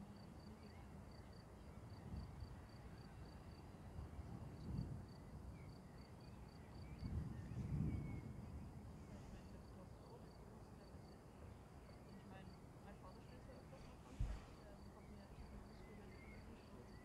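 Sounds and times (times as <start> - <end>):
high insect chirp: 0.1 - 9.0, 9.7 - 17.0.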